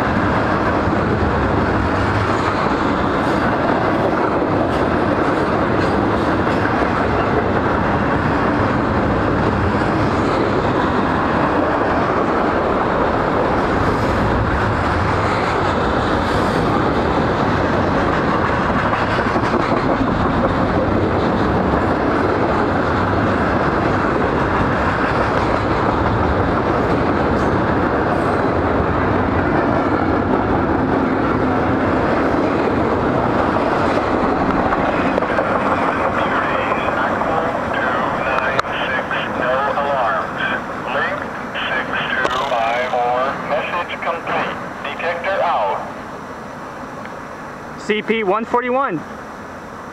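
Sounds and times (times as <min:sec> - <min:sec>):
freight train rolling past: 0:00.0 - 0:49.9.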